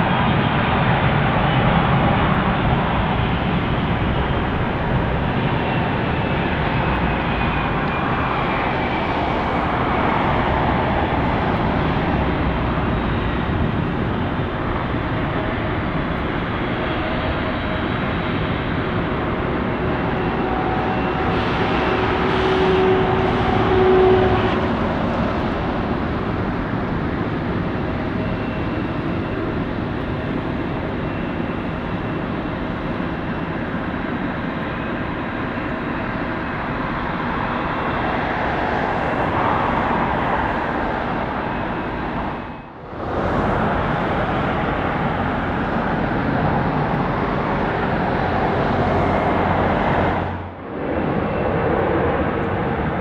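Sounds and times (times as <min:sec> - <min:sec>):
jet engine rushing: 0:00.0 - 0:53.0.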